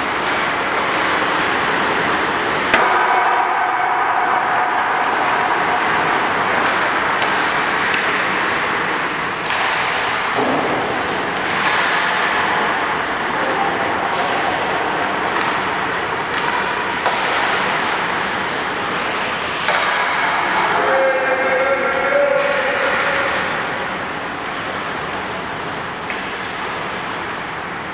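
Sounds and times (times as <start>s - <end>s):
skate blades scraping ice: 0.0s - 2.8s, 5.0s - 15.8s, 16.4s - 20.6s, 22.2s - 27.6s.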